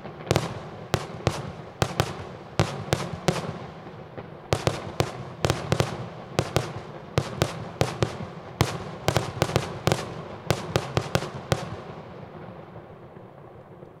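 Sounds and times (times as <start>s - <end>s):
fireworks bangs: 0.0s - 13.9s.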